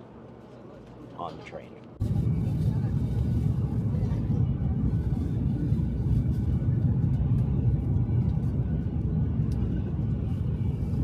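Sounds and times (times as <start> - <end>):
train rumbling inside cabin: 2.0 - 11.0.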